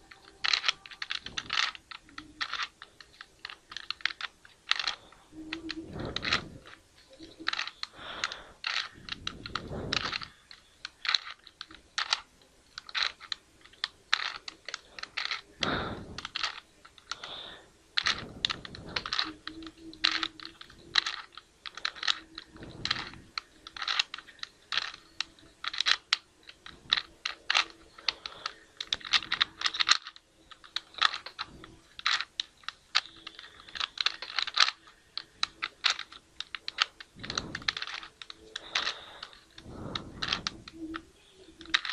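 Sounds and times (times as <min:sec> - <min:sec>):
puzzle cube plastic clicks: 0:00.0 - 0:41.9.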